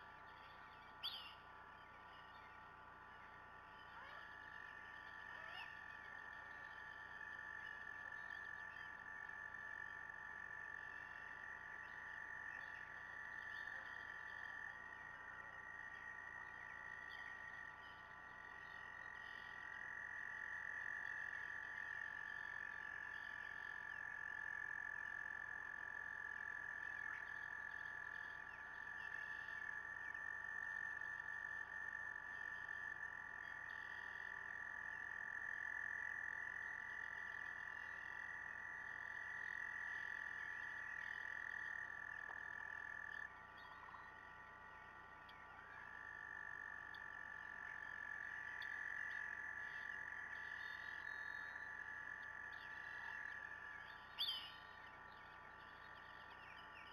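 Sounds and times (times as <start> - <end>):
distant frog chorus trilling: 0.0 - 56.9.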